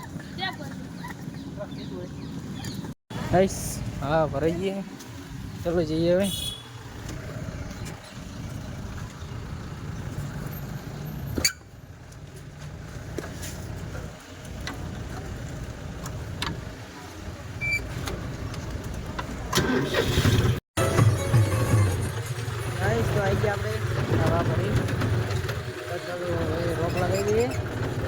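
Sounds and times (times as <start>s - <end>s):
tractor engine rumbling: 0.0s - 28.0s.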